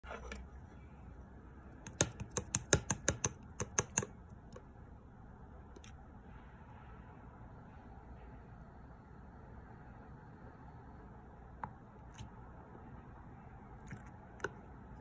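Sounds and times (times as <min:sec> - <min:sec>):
faint steady background: 0:00.0 - 0:15.0.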